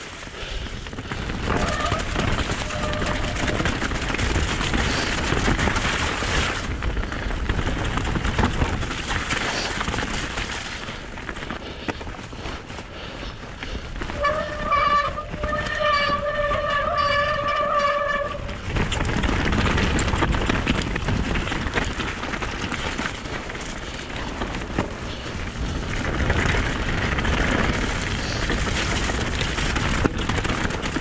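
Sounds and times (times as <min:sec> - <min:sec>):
bike rattling and clicking: 0:00.0 - 0:31.0
bike tyres rolling over gravel: 0:00.0 - 0:31.0.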